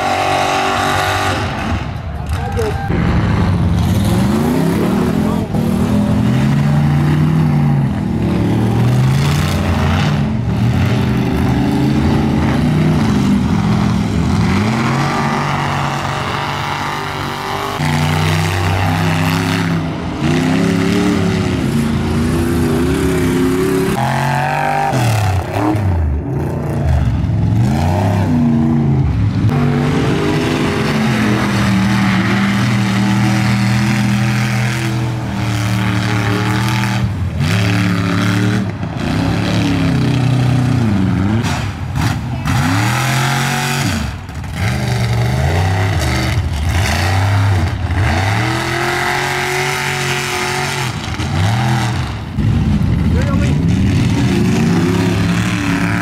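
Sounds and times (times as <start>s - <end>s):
truck engines revving: 0.0s - 56.0s.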